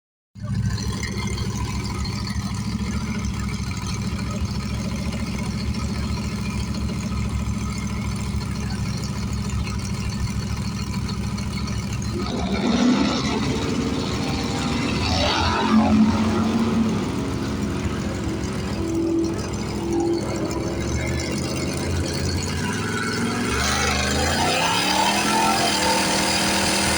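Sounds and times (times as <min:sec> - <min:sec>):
race car engine idling and revving: 0:00.4 - 0:26.9.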